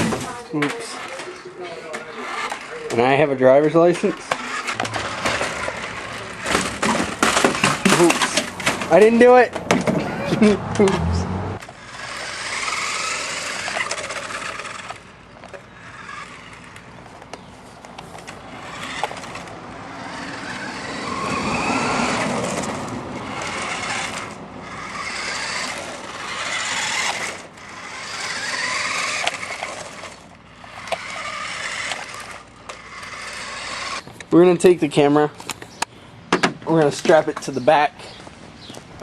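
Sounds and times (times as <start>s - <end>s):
toy car motor whining: 0.0s - 34.3s
tyres scraping and squealing: 0.0s - 36.0s.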